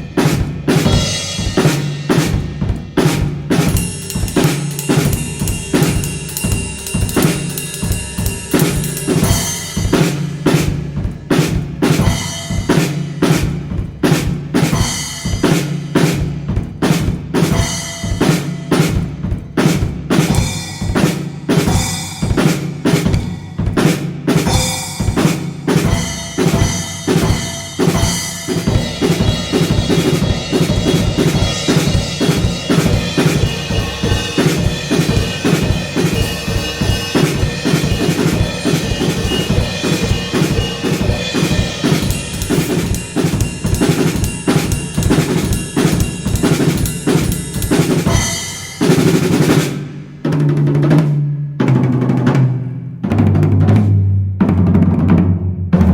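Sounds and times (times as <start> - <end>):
drum kit playing: 0.0 - 55.9.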